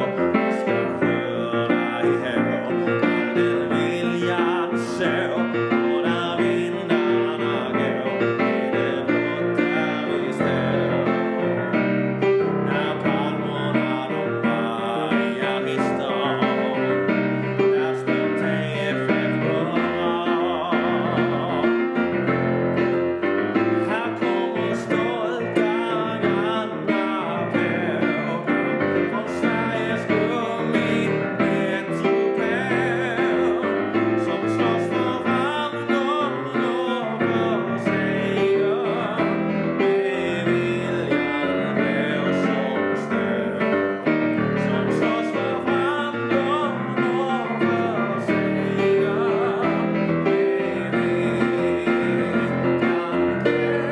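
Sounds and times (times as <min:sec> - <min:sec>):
man singing a hymn: 0:00.0 - 0:53.9
piano accompaniment: 0:00.0 - 0:53.9.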